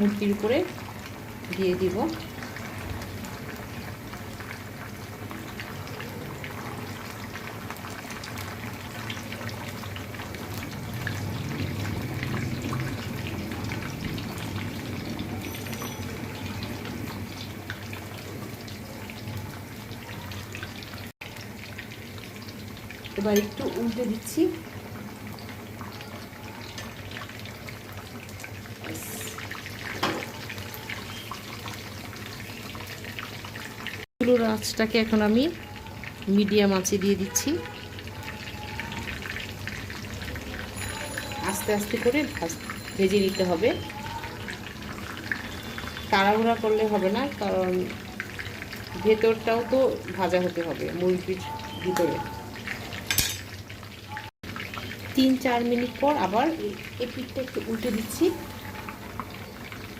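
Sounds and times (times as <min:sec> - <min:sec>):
oil sizzling with crackles and pops: 0:00.0 - 0:59.9.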